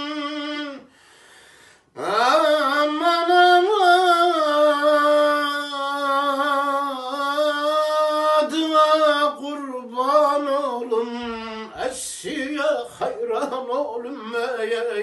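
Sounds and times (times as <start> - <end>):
man singing ornamented notes: 0.0 - 0.9, 2.0 - 15.0.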